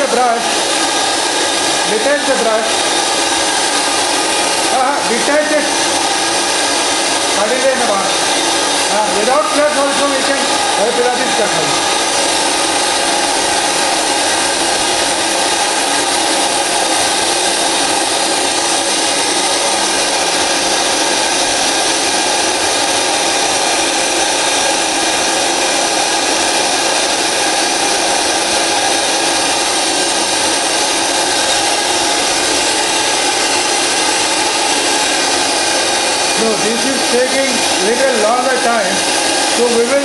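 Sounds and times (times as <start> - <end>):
vacuum cleaner air hiss: 0.0 - 40.0.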